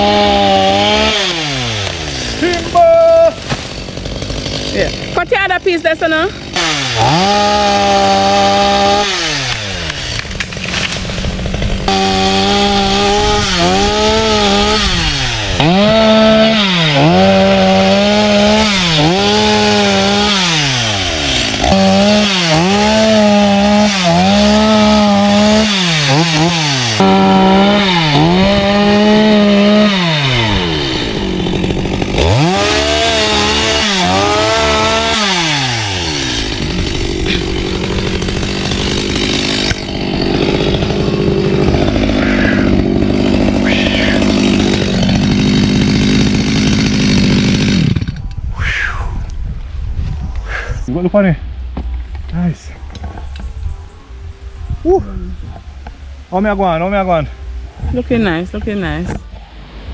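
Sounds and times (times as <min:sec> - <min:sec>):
chainsaw cutting through log: 0:00.0 - 0:48.8.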